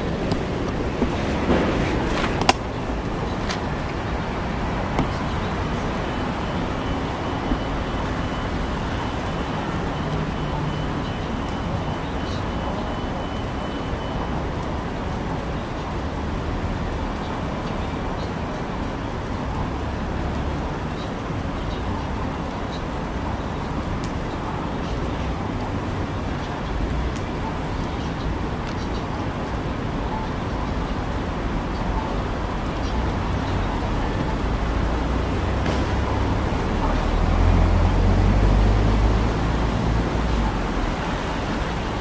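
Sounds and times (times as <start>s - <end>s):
vehicles on wet road: 0.0s - 42.0s.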